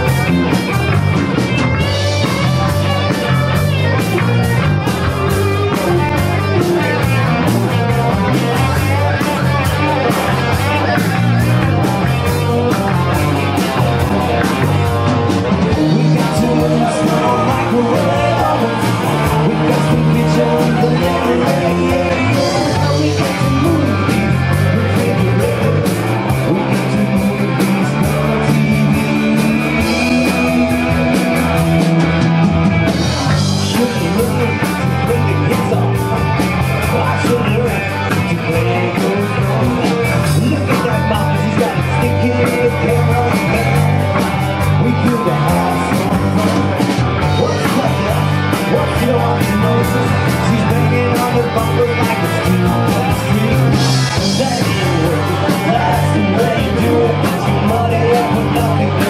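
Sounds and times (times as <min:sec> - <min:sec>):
man singing: 0:00.0 - 0:32.3, 0:32.9 - 0:59.0
distorted electric guitars: 0:00.0 - 0:59.0
drum kit with cymbal hits: 0:00.0 - 0:59.0.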